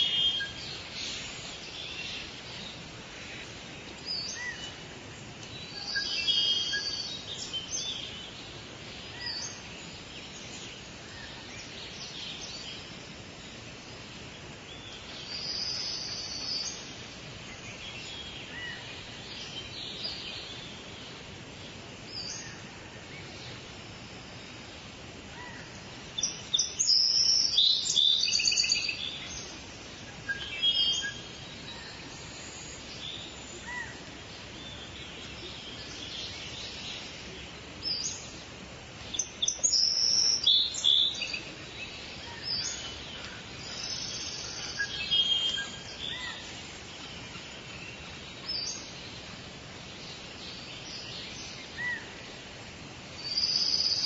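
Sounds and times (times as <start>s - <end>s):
songbirds chirping and singing: 0.0s - 54.0s
steady background hiss: 0.0s - 54.0s.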